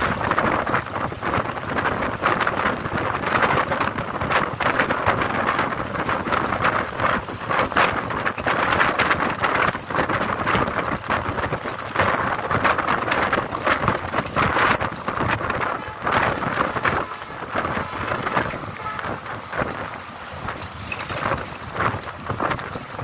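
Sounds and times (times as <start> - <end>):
vehicle road noise: 0.0 - 23.0
wind buffeting a microphone: 0.0 - 23.0.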